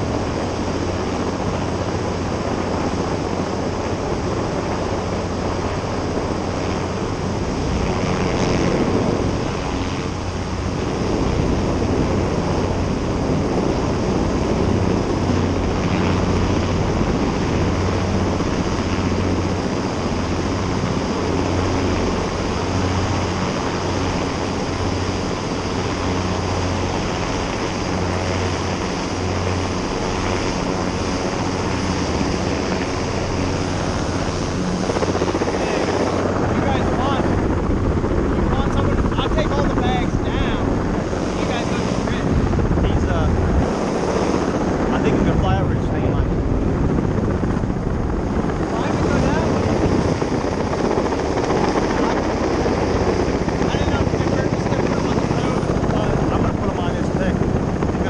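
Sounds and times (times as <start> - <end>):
helicopter turbine and rotor drone: 0.0 - 58.0.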